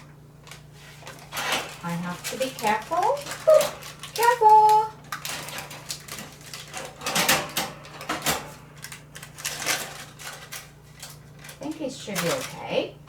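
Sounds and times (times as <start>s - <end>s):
metal rack clattering: 1.0s - 4.4s, 5.1s - 12.6s.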